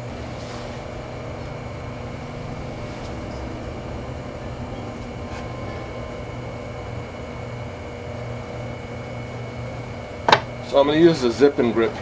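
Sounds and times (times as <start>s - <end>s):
potter's wheel motor humming: 0.0s - 12.0s.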